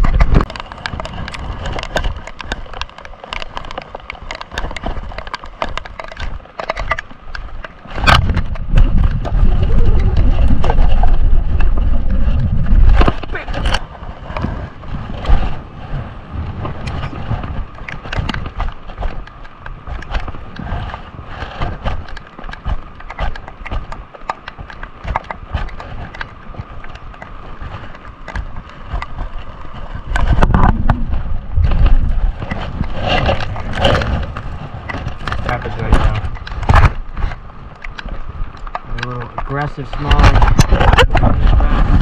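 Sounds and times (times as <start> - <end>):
fish thrashing and handling noise: 0.0 - 42.0.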